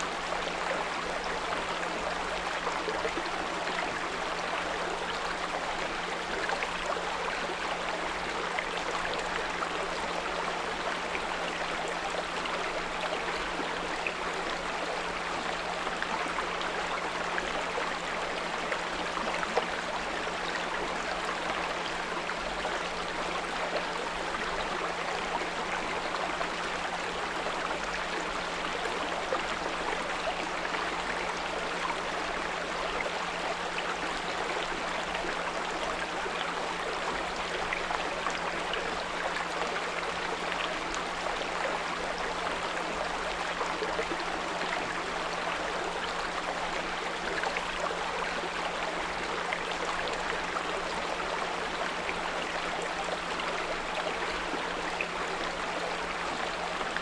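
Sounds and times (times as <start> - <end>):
brook flowing over stones: 0.0 - 57.0.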